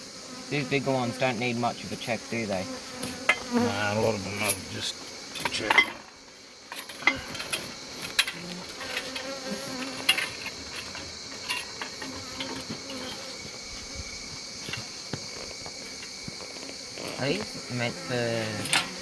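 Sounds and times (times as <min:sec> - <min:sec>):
bees buzzing: 0:00.0 - 0:19.0
high-pitched insect chirring: 0:00.0 - 0:19.0.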